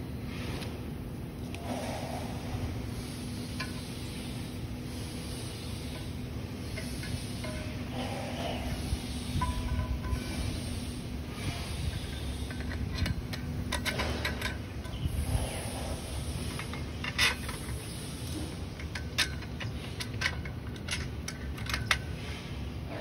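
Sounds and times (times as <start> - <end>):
metal tubes clinking and knocking: 3.4 - 22.3.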